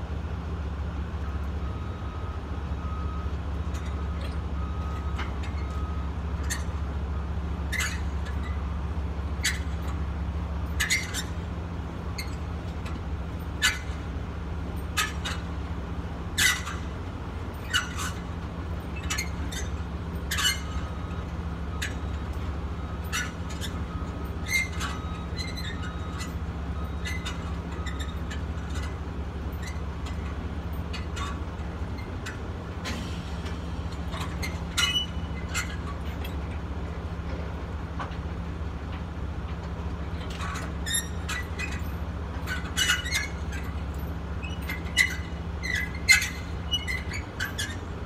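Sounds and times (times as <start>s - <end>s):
truck engine idling: 0.0s - 48.0s.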